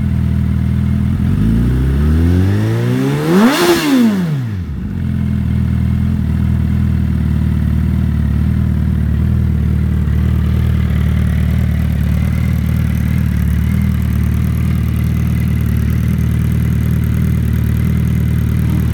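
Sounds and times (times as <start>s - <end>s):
motorcycle engine idling: 0.0s - 1.6s, 4.6s - 18.9s.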